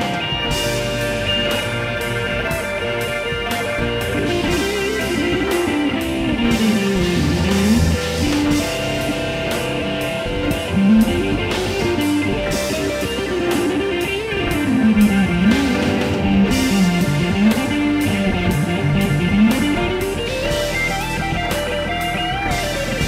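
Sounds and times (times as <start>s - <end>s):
electric guitar lead: 0.0s - 23.0s.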